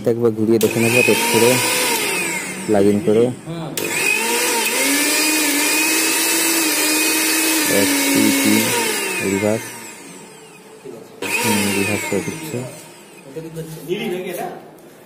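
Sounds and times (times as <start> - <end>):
mixer grinder motor whine: 0.6 - 13.4.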